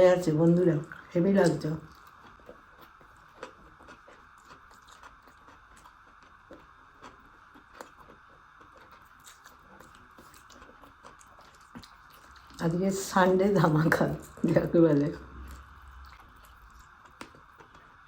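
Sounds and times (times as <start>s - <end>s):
person chewing food: 0.9s - 12.6s, 15.2s - 18.0s.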